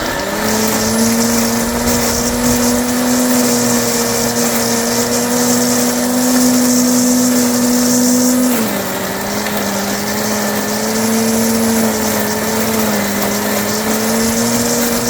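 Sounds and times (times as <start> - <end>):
electric leaf mulcher motor whine: 0.0 - 15.0.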